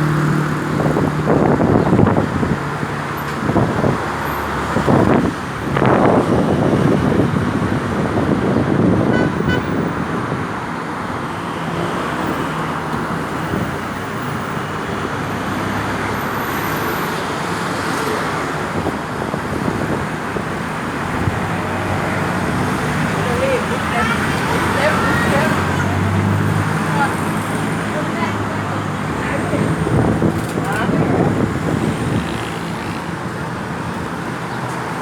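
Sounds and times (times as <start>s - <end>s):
traffic on busy road: 0.0s - 35.0s.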